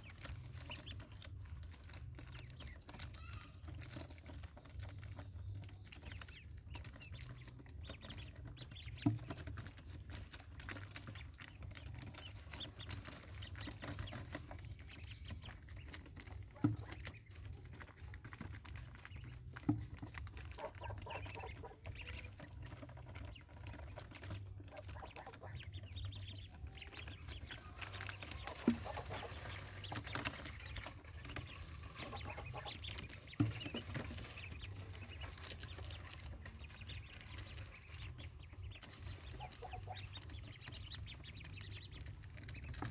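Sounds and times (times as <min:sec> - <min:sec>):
ducklings peeping: 0:00.0 - 0:42.9
small clicks on plastic mesh: 0:00.0 - 0:42.9.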